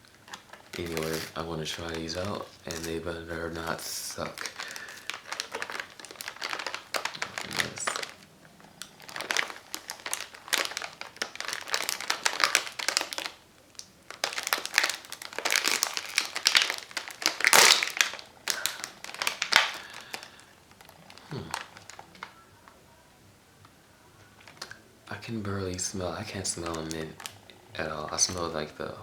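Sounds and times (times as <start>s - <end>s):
plastic wrapper crinkling: 0.0s - 29.0s.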